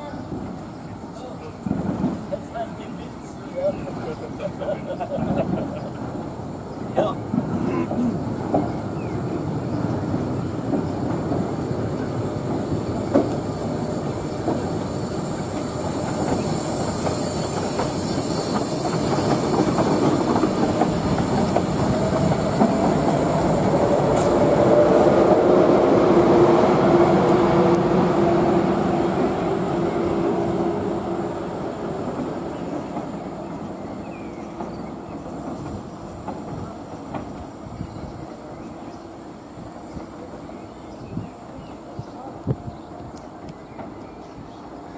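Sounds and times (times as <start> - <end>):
train wheels clattering on rails: 0.0 - 44.9.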